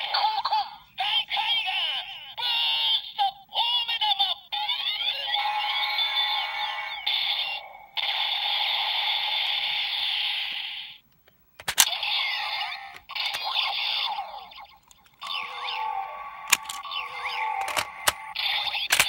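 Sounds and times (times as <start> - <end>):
toy electronic sound effects: 0.0 - 11.0, 11.6 - 19.0.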